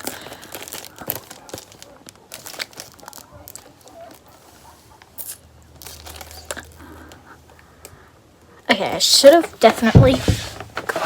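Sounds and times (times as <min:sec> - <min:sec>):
rustling and crinkling: 0:00.0 - 0:07.5, 0:08.7 - 0:11.0.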